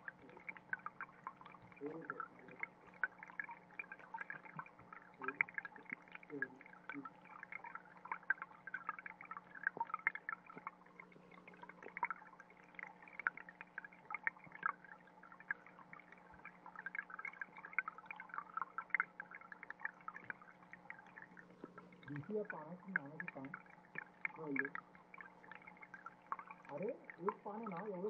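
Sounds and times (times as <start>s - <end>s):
faint steady hum: 0.0s - 28.0s
underwater crackle of ticks and pops: 0.0s - 28.0s.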